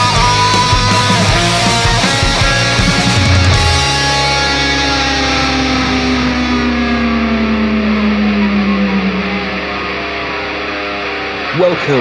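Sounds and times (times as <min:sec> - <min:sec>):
electric guitar chord ringing: 0:00.0 - 0:12.0.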